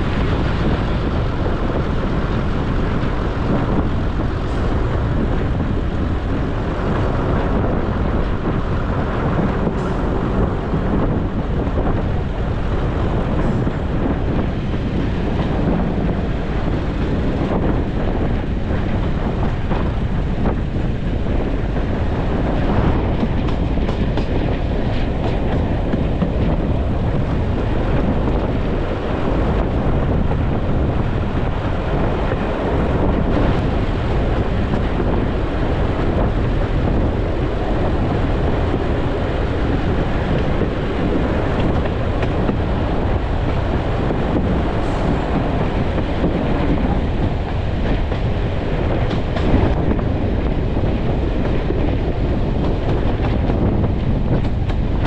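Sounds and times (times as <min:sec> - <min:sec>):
steel wheels rumbling on rails: 0:00.0 - 0:55.0
wind on microphone: 0:00.0 - 0:55.0.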